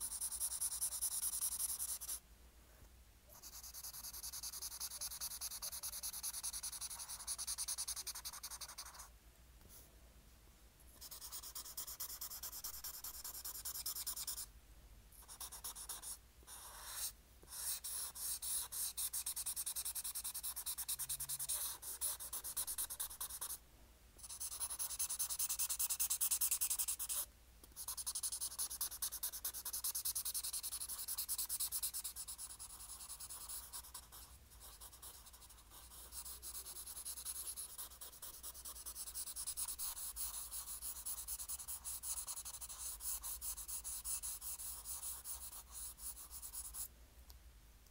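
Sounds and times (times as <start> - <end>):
pen scratching on paper: 0.0 - 2.2, 3.3 - 9.1, 11.0 - 14.5, 15.2 - 23.6, 24.2 - 46.9.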